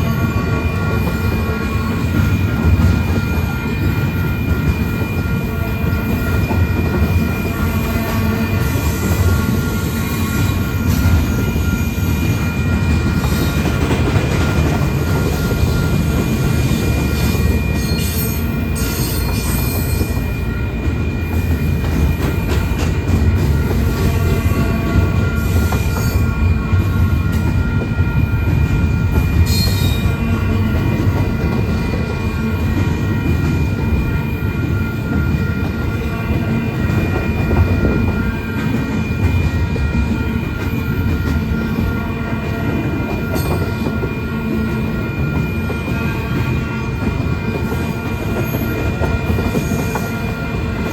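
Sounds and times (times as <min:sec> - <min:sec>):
freight train rumbling on rails: 0:00.0 - 0:50.9
high squeal from train wheels: 0:00.0 - 0:50.9.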